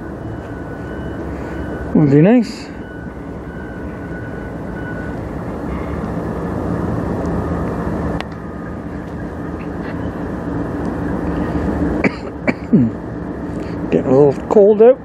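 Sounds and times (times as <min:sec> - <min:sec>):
locomotive engine drone: 0:00.0 - 0:15.0.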